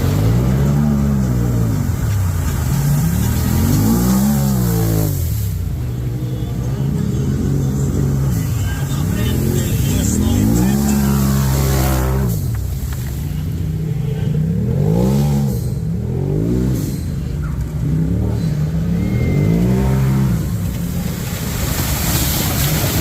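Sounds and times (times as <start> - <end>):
vehicle engine revving: 0.0 - 23.0.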